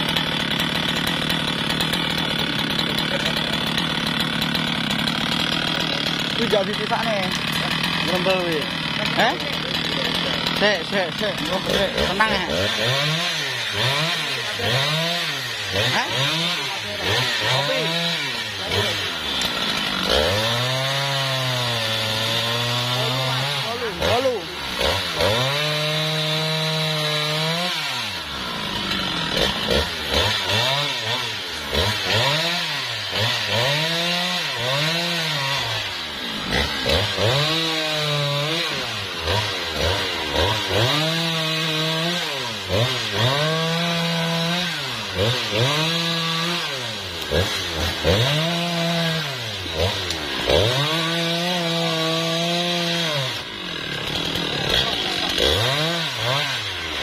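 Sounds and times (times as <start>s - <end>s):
chainsaw revving cutting wood: 0.0s - 57.0s.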